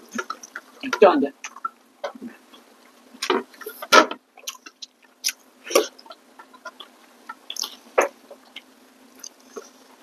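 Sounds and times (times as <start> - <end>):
chewing and mouth smacking: 1.4 - 9.8.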